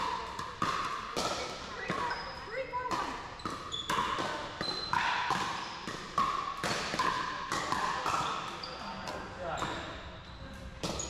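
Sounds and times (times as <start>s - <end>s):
paddles hitting pickleball: 0.0s - 10.0s, 10.8s - 11.0s.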